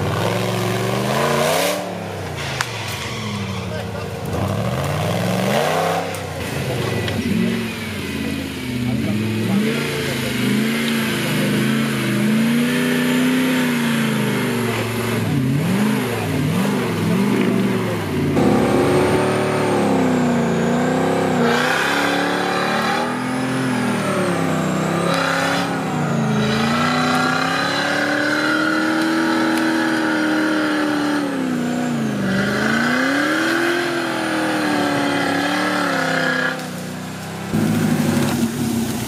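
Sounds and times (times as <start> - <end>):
buggy engine revving hard: 0.0 - 39.0.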